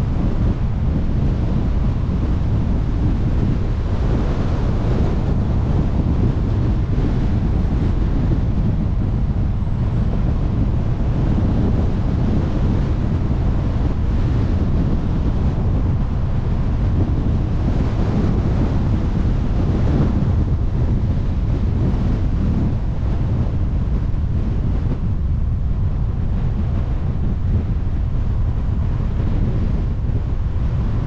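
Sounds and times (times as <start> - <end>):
wind rush on microphone: 0.0 - 31.0.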